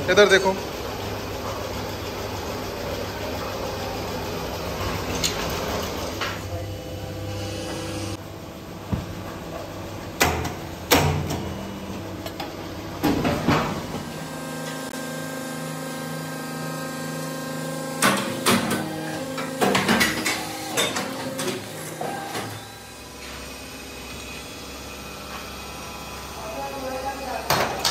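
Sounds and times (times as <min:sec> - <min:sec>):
steady machine hum: 0:00.0 - 0:27.5.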